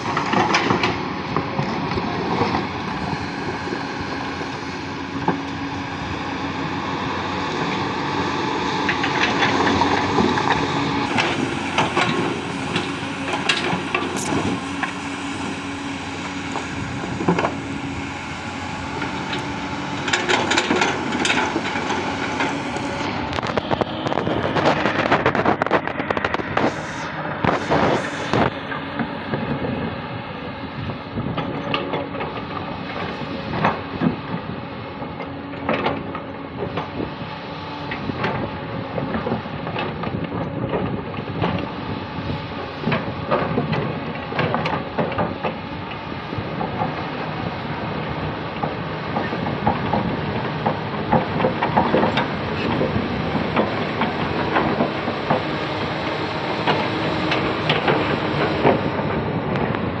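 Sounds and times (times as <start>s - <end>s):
excavator diesel engine running: 0.0s - 60.0s.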